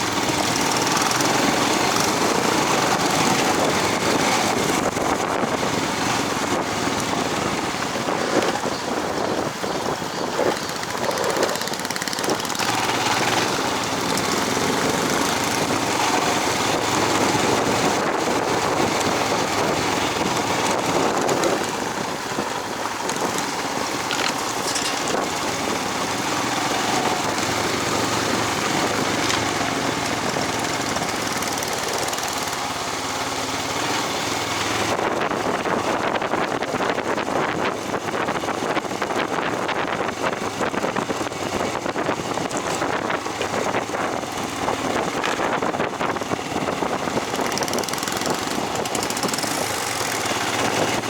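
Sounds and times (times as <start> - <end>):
vehicle engine running: 0.0 - 51.0
wind noise on microphone: 0.0 - 51.0.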